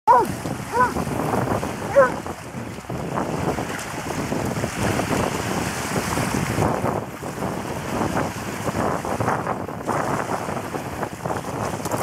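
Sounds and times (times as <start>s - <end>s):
wind buffeting microphone: 0.1s - 12.0s.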